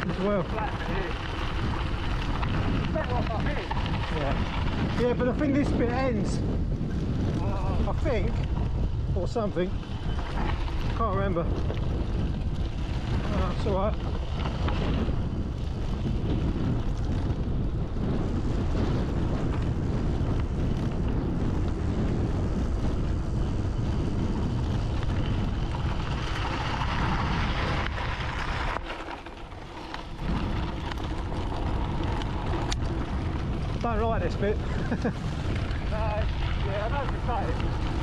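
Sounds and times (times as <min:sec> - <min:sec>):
tyre rumble on dirt track: 0:00.0 - 0:38.0
wind rush on microphone: 0:00.0 - 0:38.0.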